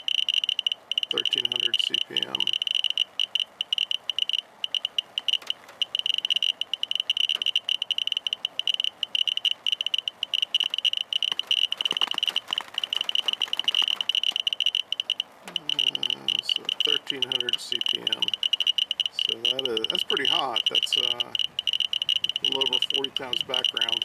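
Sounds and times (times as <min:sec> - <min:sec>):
geiger counter chirping rapidly: 0:00.0 - 0:24.0.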